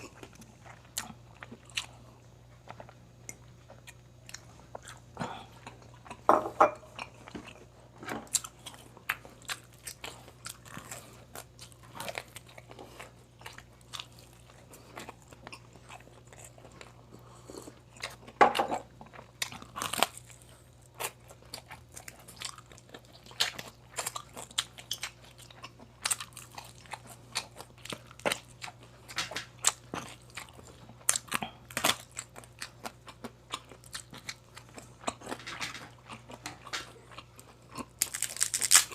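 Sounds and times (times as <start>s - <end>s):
crunchy food chewing: 0.0s - 38.9s.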